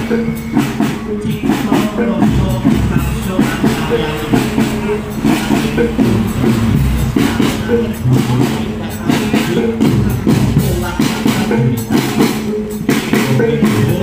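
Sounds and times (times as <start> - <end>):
drums and percussion rhythm: 0.0 - 14.0
pitched instruments playing: 0.0 - 14.0.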